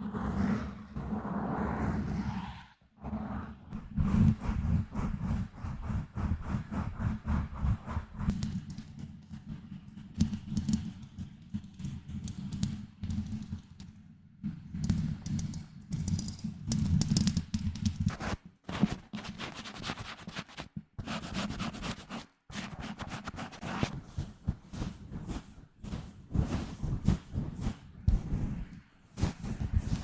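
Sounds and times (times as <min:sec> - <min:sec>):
fingers scratching on microphone: 0:03.0 - 0:13.7, 0:14.4 - 0:30.0.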